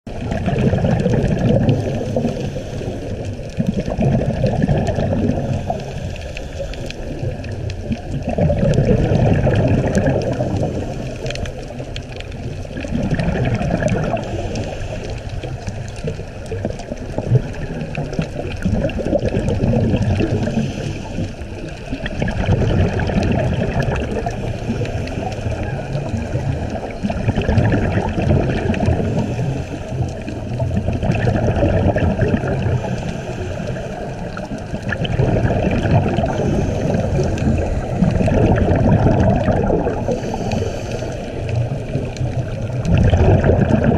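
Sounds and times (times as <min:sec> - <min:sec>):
scuba regulator bubbling underwater: 0:00.1 - 0:43.9.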